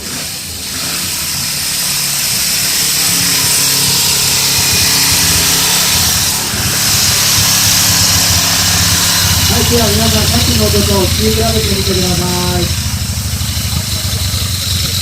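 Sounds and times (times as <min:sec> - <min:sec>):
muffled motorcycle engine rumble: 0:00.0 - 0:15.0.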